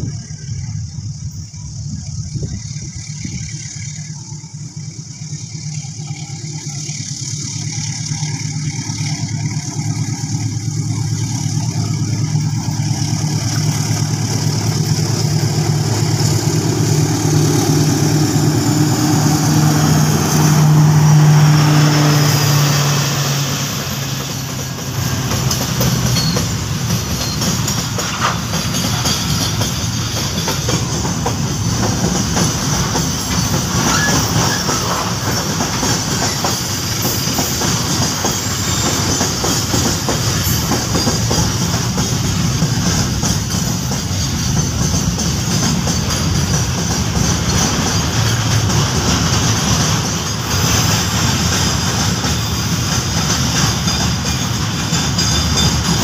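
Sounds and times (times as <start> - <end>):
diesel locomotive engine hum: 0.0 - 56.0
freight wagons rolling on rails: 0.0 - 56.0.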